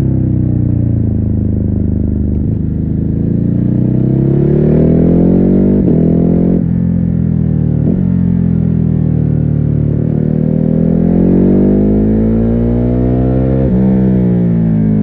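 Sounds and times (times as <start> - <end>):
muffled motorcycle engine accelerating: 0.0 - 15.0.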